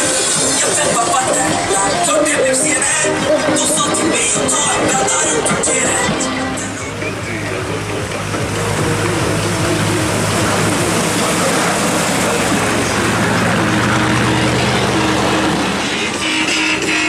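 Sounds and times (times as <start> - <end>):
car engine running: 0.0 - 17.0
music playing: 0.0 - 17.0.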